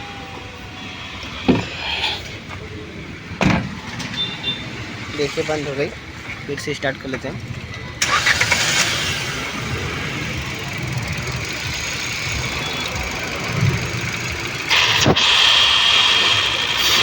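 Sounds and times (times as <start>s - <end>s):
car engine running rough with misfire: 0.0s - 17.0s.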